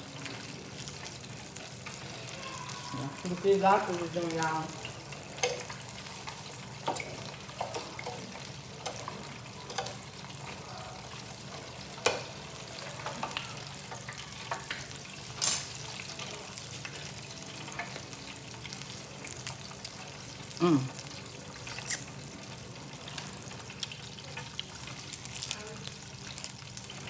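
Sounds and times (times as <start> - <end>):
food deep-frying in hot oil: 0.0 - 27.0.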